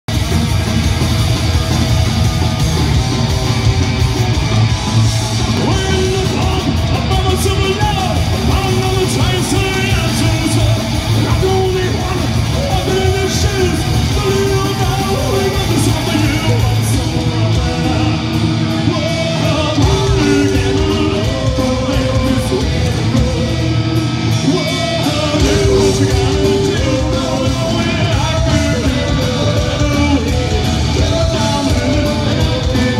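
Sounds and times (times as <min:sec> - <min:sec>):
drums: 0:00.0 - 0:32.9
electric guitar: 0:00.0 - 0:32.9
person singing: 0:05.6 - 0:32.9.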